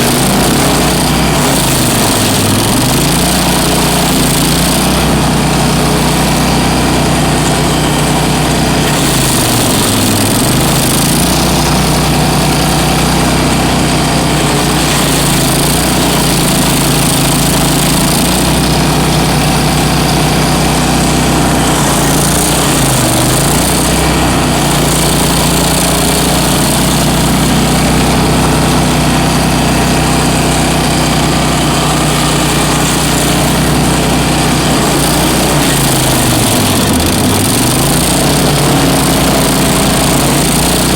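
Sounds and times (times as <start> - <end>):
stump grinder engine running: 0.0 - 40.9.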